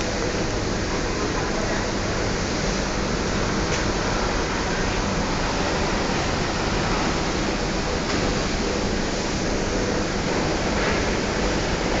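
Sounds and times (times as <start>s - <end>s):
packing machine hiss and rumble: 0.0s - 12.0s.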